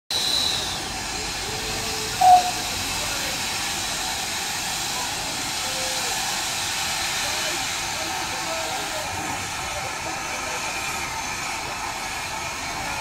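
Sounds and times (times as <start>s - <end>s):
hiss of escaping steam: 0.1s - 13.0s.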